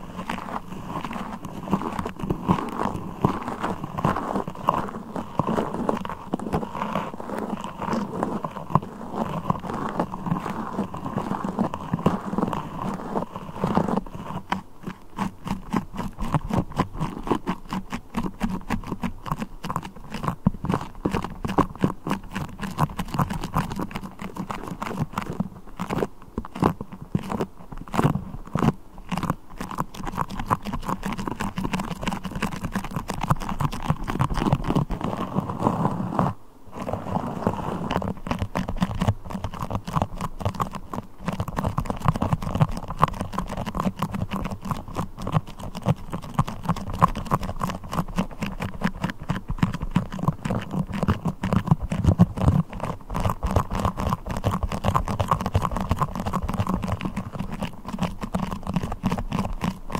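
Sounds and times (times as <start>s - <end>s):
sticky crackles and clicks: 0.0s - 36.0s, 36.8s - 59.9s.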